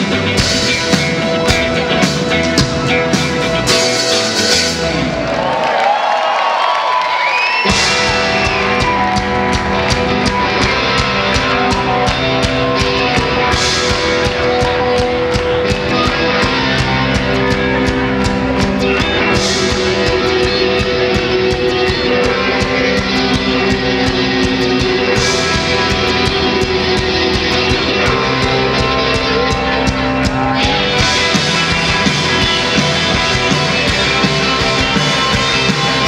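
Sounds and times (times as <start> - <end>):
steady drum beat: 0.0 - 5.2, 7.6 - 36.0
electric guitars sustained notes: 0.0 - 5.9, 7.3 - 36.0.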